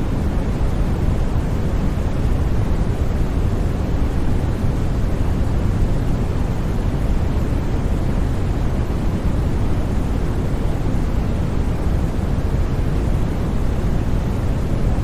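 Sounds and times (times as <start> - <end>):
white noise rush: 0.0 - 15.0.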